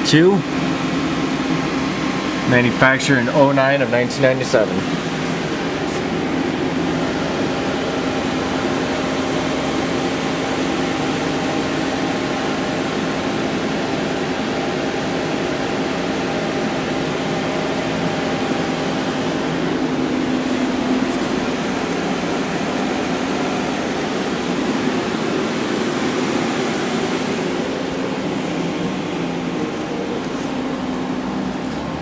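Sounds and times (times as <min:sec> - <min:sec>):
machine tool humming: 0:00.0 - 0:32.0.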